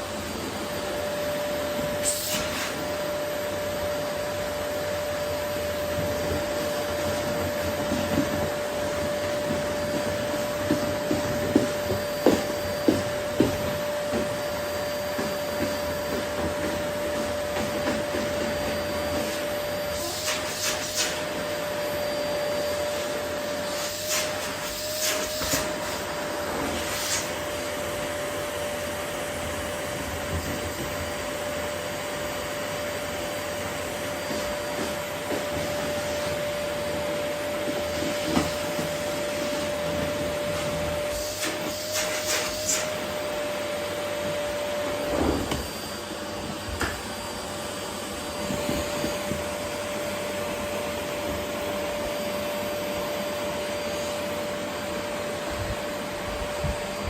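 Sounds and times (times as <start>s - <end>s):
vacuum cleaner whining: 0.0s - 57.0s.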